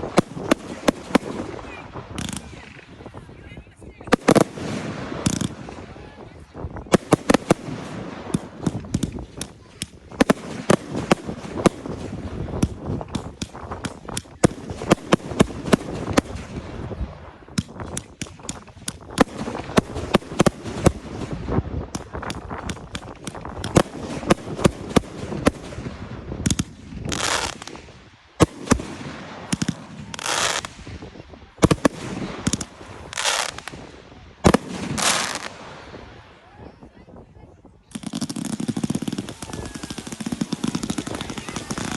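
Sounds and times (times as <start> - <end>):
fireworks hissing bursts: 0.0 - 3.2, 4.1 - 36.2, 37.9 - 41.9
fireworks bangs and crackles: 0.0 - 41.9.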